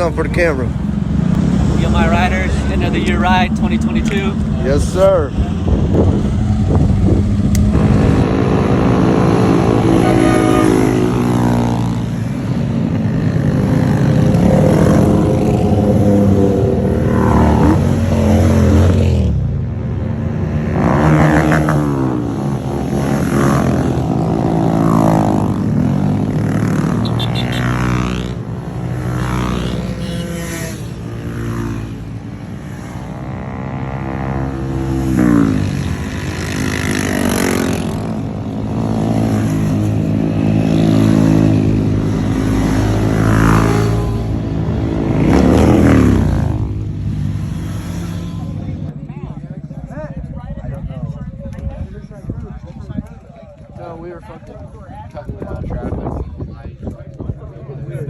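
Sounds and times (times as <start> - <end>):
mini bike engines revving: 0.0 - 19.5, 20.2 - 48.9.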